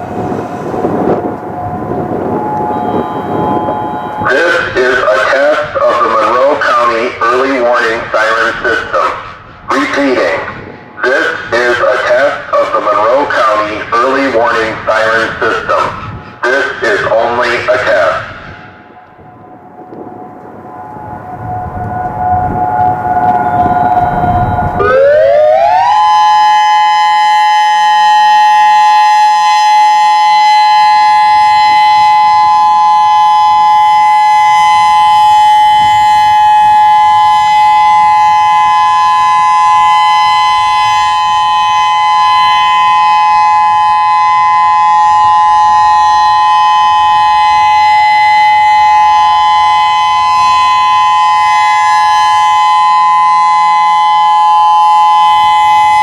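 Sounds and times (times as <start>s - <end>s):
electronic warning siren tone: 0.0s - 16.0s, 17.0s - 56.0s.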